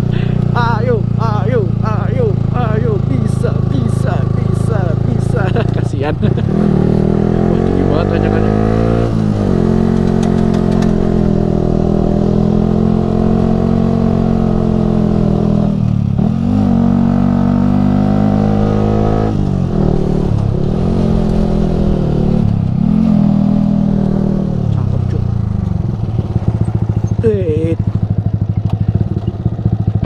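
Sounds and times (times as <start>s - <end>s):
motorcycle engine while riding: 0.0s - 30.0s.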